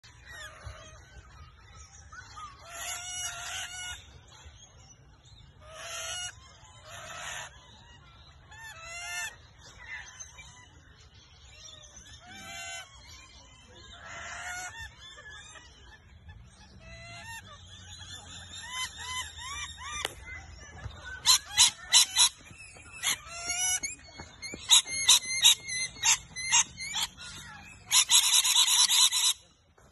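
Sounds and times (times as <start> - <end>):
lorikeets chattering calls: 0.1 - 29.6.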